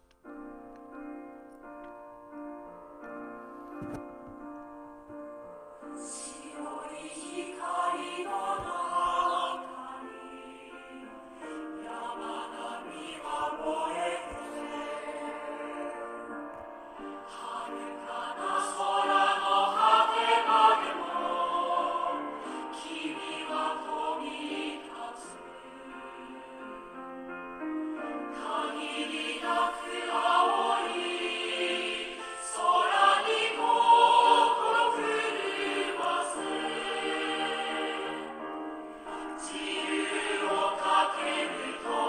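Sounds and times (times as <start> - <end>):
choir singing in parts: 5.8 - 27.1, 27.9 - 42.0.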